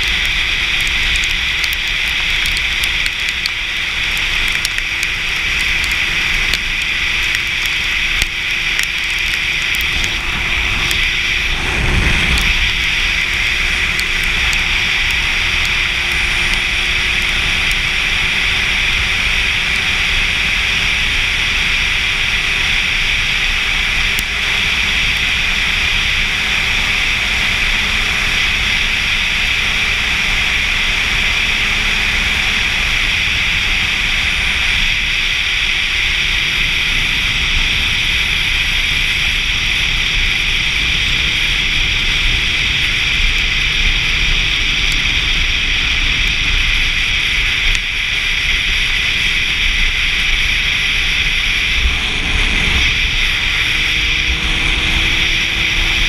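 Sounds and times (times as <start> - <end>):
wind rush: 3.5 - 56.0.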